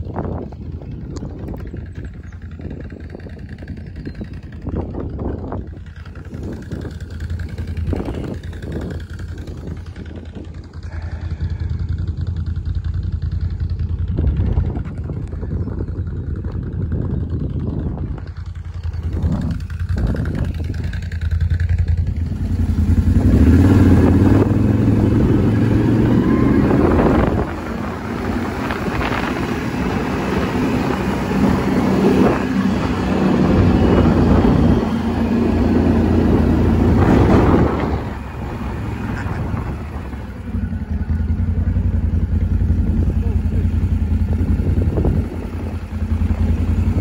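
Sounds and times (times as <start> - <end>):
atv engine revving: 0.0 - 15.7, 16.4 - 47.0.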